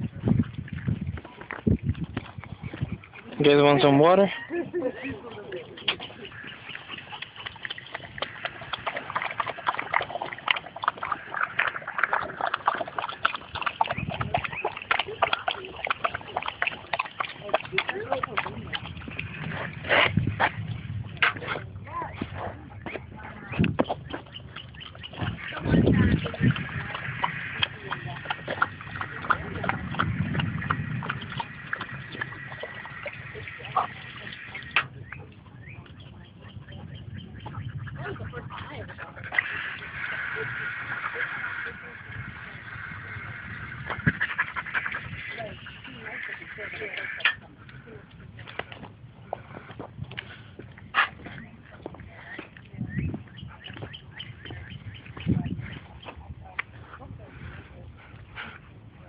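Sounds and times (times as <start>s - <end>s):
dog lapping water: 0.0s - 59.0s.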